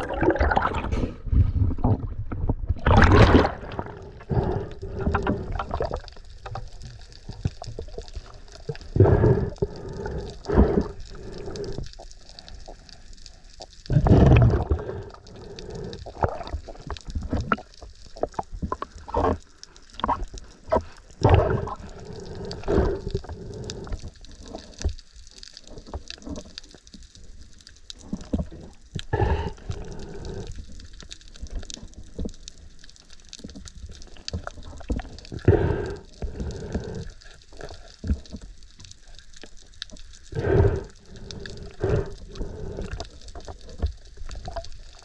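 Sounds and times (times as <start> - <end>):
water sloshing and gurgling: 0.0 - 45.0.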